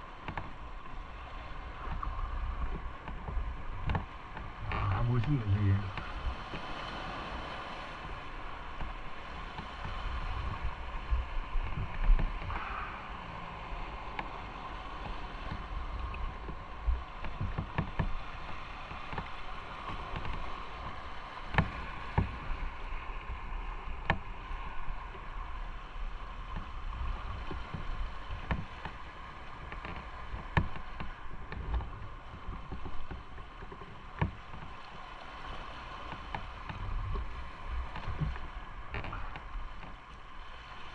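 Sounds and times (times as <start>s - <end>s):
wind noise on microphone: 0.0s - 40.9s.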